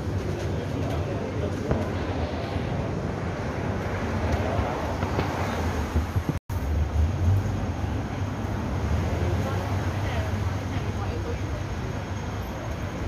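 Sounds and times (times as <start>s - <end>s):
road traffic rumble: 0.0s - 13.0s
street bustle: 0.0s - 13.0s.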